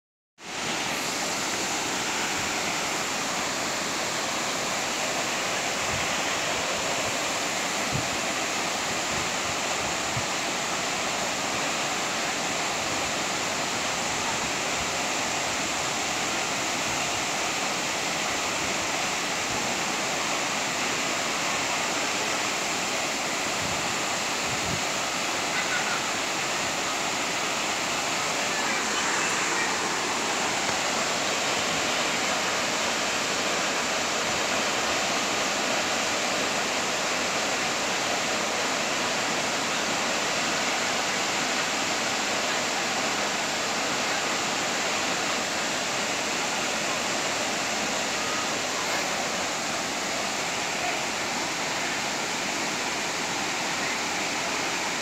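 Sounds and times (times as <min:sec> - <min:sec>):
waterfall rushing: 0:00.4 - 0:55.0.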